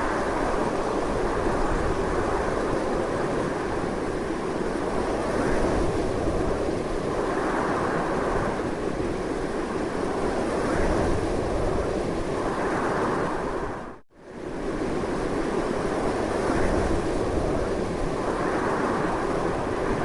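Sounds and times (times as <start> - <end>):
strong wind rushing: 0.0 - 20.0.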